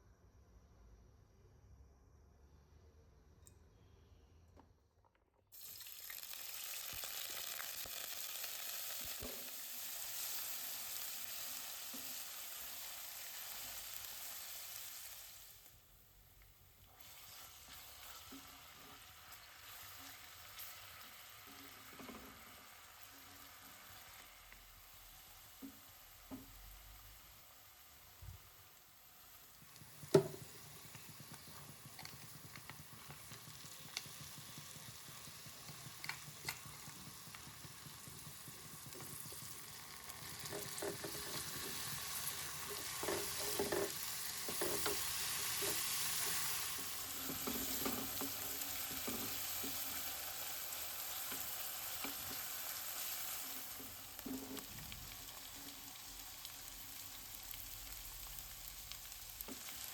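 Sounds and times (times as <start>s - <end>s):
food sizzling in a pan: 5.5s - 59.9s.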